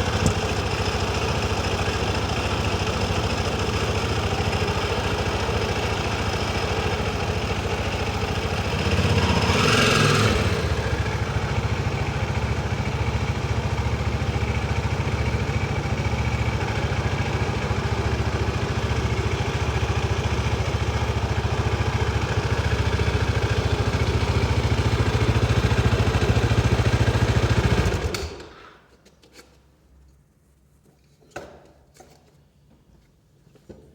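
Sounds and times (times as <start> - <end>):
motorcycle engine idling: 0.0 - 28.2.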